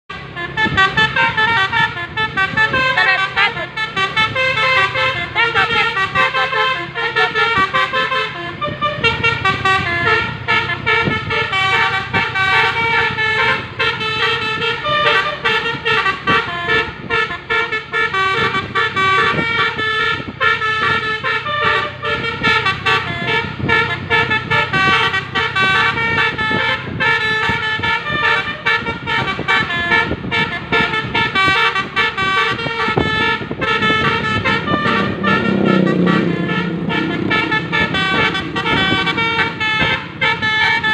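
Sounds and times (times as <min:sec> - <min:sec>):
multi-tone bus air horn melody: 0:00.1 - 0:40.9.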